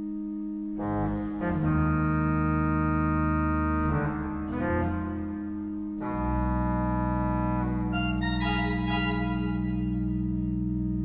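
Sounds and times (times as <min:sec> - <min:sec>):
pipe organ playing chords: 0:00.0 - 0:11.0.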